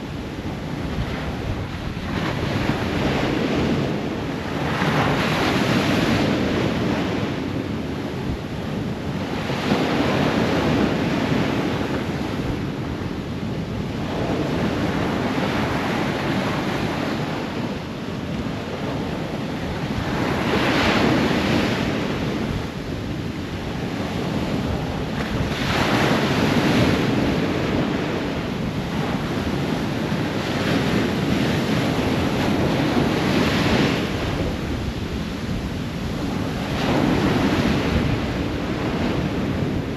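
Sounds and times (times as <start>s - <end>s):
ocean surf breaking on shore: 0.0s - 39.9s
wind rumble on microphone: 0.0s - 39.9s.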